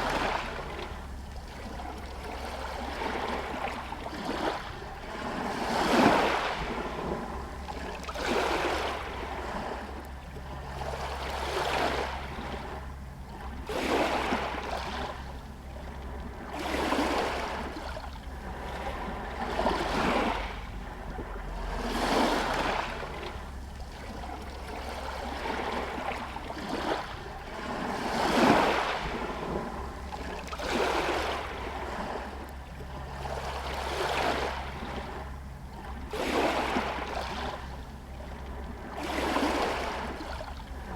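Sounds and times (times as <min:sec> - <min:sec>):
waves lapping against stone pier: 0:00.0 - 0:40.9.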